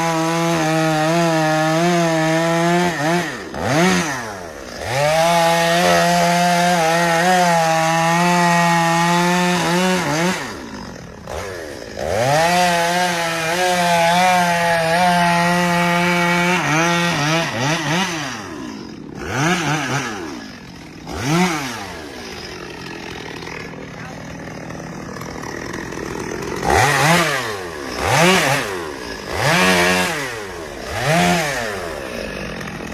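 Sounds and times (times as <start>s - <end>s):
chainsaw idling: 0.0s - 32.9s
chainsaw revving: 0.0s - 32.9s.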